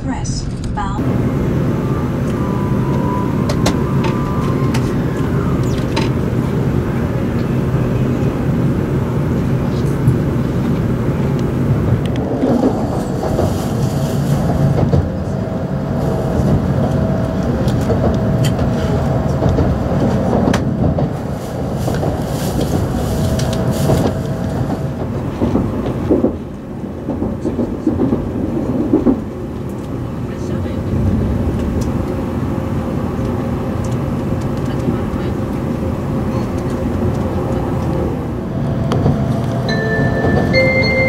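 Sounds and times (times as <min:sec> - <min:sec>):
train running rumble: 0:00.0 - 0:41.0.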